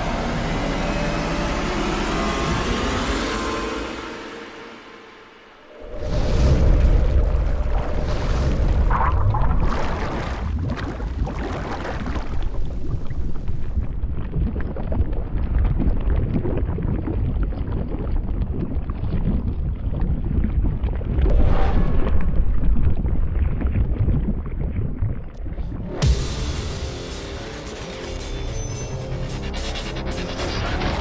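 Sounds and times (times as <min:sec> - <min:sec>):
deep noisy rumble: 0:00.0 - 0:18.8, 0:19.4 - 0:26.3.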